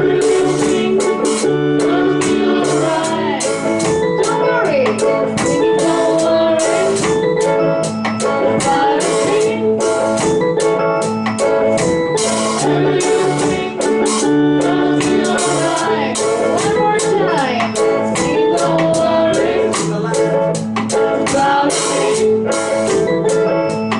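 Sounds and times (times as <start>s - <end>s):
bass: 0.0s - 23.9s
drum kit beat: 0.0s - 23.9s
guitar: 0.0s - 23.9s
organ-sounding keyboard: 0.0s - 23.9s.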